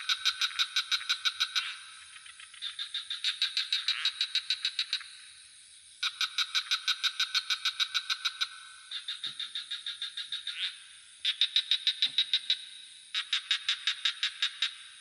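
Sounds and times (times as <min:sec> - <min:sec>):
frogs calling in pulsed trills: 0:00.0 - 0:15.0.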